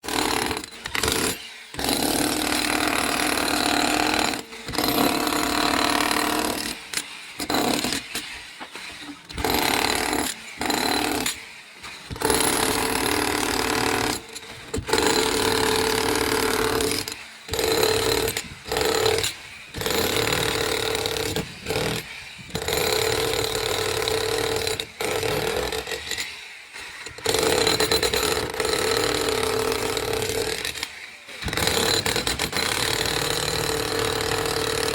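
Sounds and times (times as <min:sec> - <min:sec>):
power tool cutting concrete: 0:00.0 - 0:34.9.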